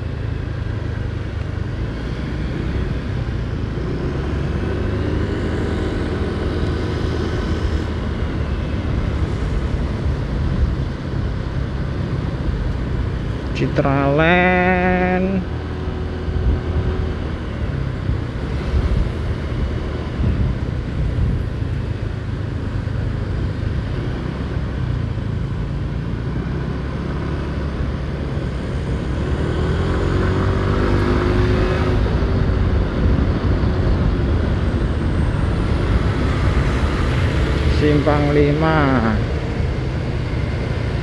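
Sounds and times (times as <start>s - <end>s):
motorcycle engine: 0.0s - 41.0s
road noise: 0.0s - 41.0s.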